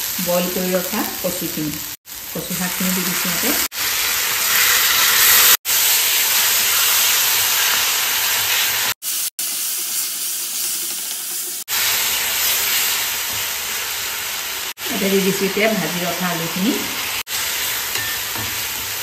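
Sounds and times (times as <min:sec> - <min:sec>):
leaves sizzling in a pan: 0:00.0 - 0:19.0.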